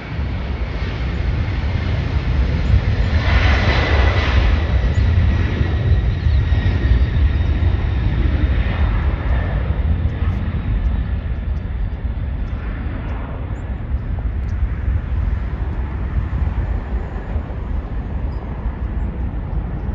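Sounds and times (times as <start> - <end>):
jet engines at takeoff: 0.0 - 19.9.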